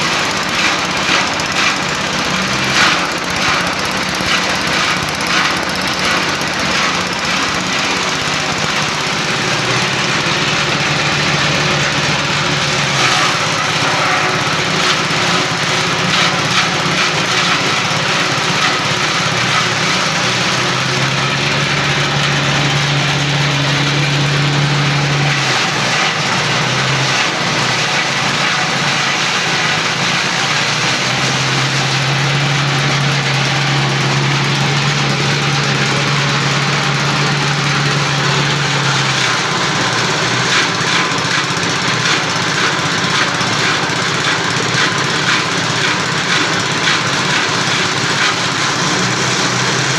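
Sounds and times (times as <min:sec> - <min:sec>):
forage chopper cutting grass: 0:00.0 - 0:49.9
small engine running loud: 0:00.0 - 0:49.9.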